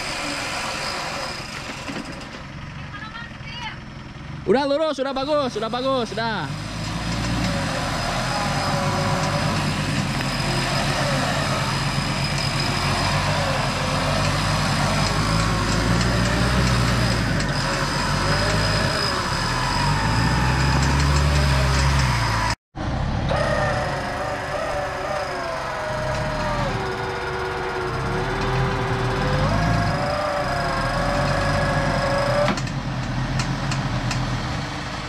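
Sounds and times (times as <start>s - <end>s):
off-roader engine revving: 0.0s - 3.0s, 4.1s - 35.0s.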